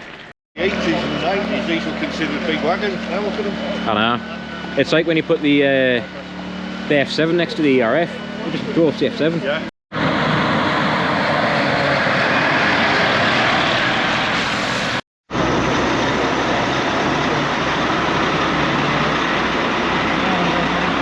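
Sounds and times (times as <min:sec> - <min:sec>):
lorry engine and road noise: 0:00.0 - 0:21.0.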